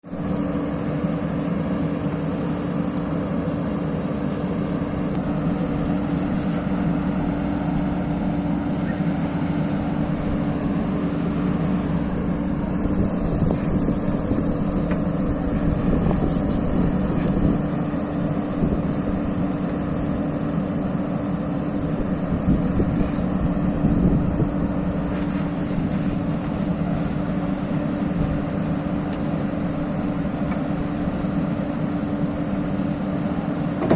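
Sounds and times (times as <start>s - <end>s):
diesel engine droning: 0.0s - 33.9s.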